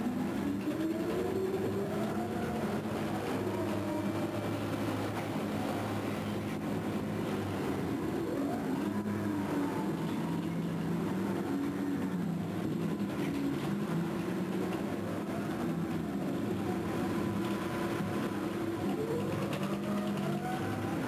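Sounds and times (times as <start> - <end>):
heavy machinery drone: 0.0 - 21.0
machinery whine: 0.0 - 21.0.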